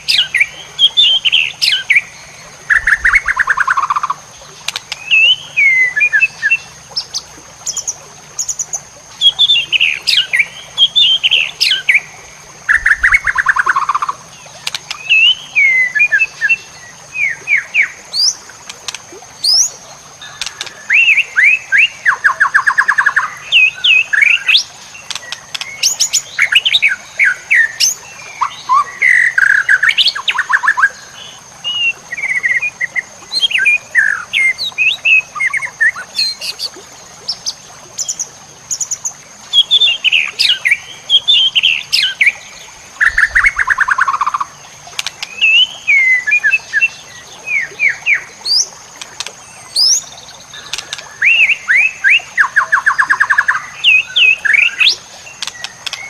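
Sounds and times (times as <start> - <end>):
bird singing whistles and trills: 0.0 - 4.2, 5.0 - 12.0, 12.7 - 18.4, 20.3 - 42.4, 43.0 - 44.6, 45.2 - 48.7, 49.6 - 56.0.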